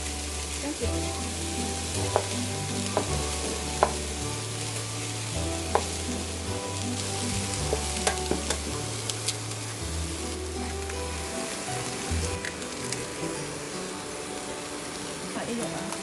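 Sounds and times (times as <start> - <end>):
background music with bass line: 0.0 - 15.6
rice sizzling in a pan: 0.0 - 16.0.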